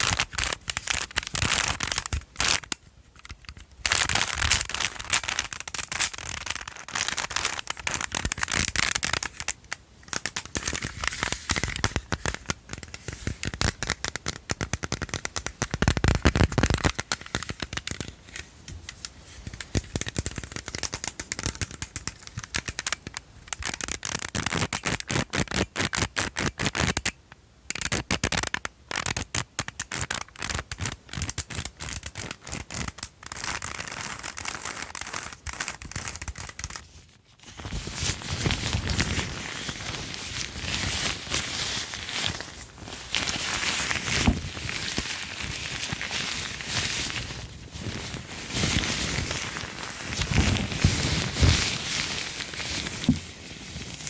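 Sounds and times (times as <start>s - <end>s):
scratching crinkling handling: 0.0s - 25.0s, 31.8s - 54.0s.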